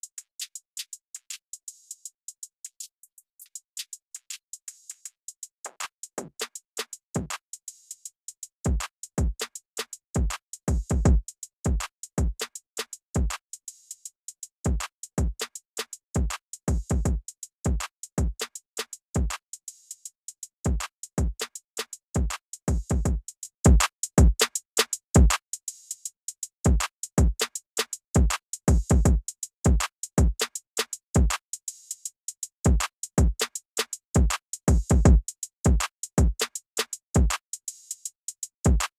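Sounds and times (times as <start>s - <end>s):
drum machine beat: 0.0s - 20.1s, 20.7s - 38.9s.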